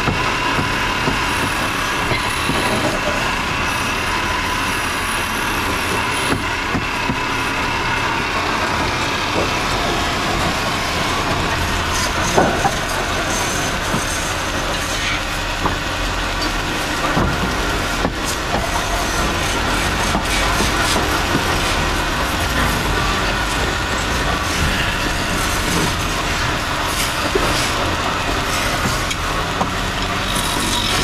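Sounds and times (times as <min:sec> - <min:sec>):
wood lathe running: 0:00.0 - 0:31.0.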